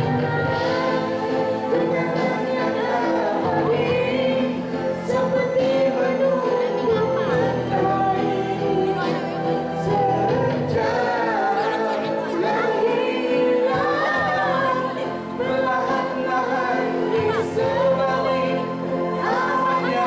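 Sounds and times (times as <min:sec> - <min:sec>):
backing music track: 0:00.0 - 0:20.0
woman and man singing duet: 0:00.0 - 0:20.0.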